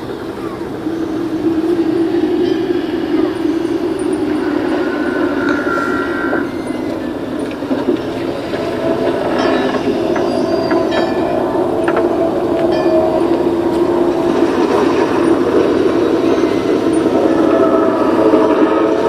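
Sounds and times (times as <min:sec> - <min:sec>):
low rumbling ambience: 0:00.0 - 0:19.0.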